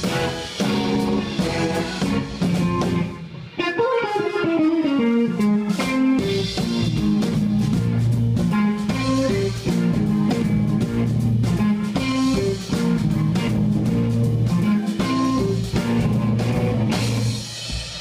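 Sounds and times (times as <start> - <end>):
drum kit: 0.0 - 18.0
electric bass: 0.0 - 18.0
electric guitar: 0.0 - 18.0
keyboard: 0.0 - 18.0.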